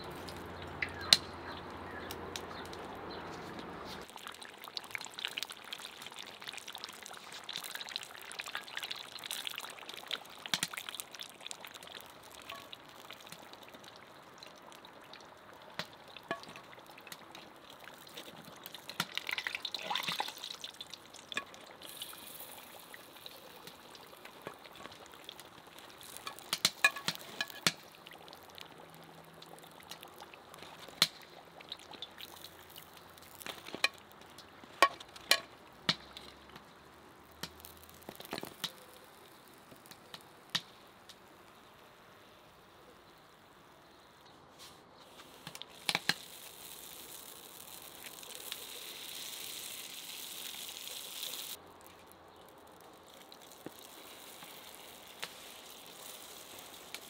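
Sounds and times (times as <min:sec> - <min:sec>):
oil pops and clicks: 0:04.0 - 0:41.3, 0:45.4 - 0:49.0, 0:51.8 - 0:57.0
food sizzling in hot oil: 0:04.0 - 0:44.3, 0:45.0 - 0:57.0.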